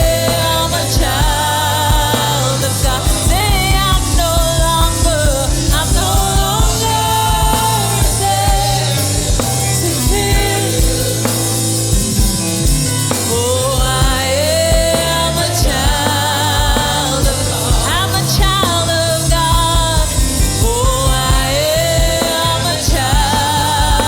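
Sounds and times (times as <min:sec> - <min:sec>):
band playing worship song: 0:00.0 - 0:24.0
person singing: 0:00.0 - 0:24.0.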